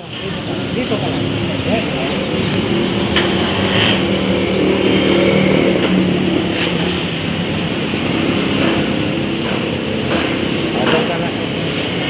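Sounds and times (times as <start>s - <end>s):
road traffic noise: 0.0s - 12.0s
vehicle engine running: 0.2s - 12.0s.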